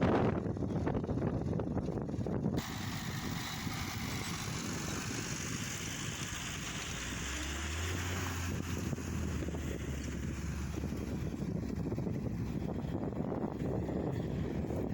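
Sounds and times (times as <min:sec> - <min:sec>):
wind buffeting microphone: 0:00.0 - 0:14.9
steady low hum: 0:00.1 - 0:14.9
rotary tiller engine running: 0:02.6 - 0:14.9.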